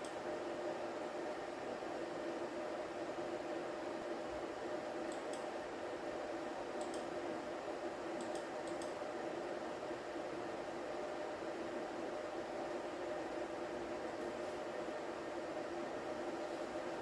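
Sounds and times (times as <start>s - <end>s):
room hum with faint hiss: 0.0s - 17.0s.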